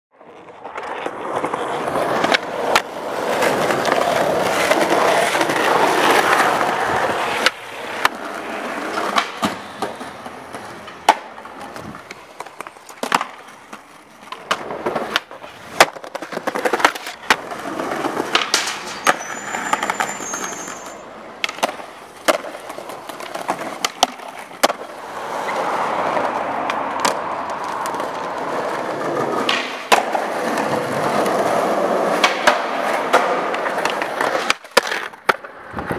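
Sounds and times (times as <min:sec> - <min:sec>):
skateboard wheels rolling on concrete: 0:00.1 - 0:35.9
skateboard landing on ground: 0:00.2 - 0:19.9, 0:21.4 - 0:35.9
skateboard tail popping: 0:00.2 - 0:20.5, 0:21.3 - 0:35.9.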